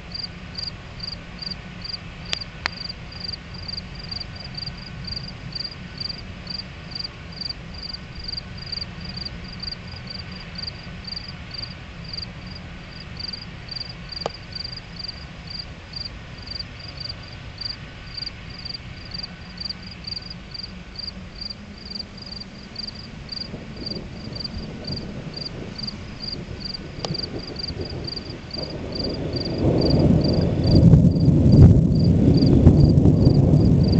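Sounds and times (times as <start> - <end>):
crickets chirping: 0.0 - 33.9
low steady noise: 0.0 - 33.9
loud low rumbling: 3.0 - 33.9.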